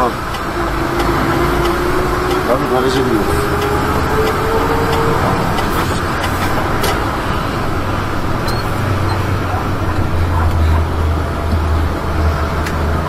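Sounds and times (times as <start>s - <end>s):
diesel truck engine drone: 0.0s - 13.0s
road noise: 0.0s - 13.0s.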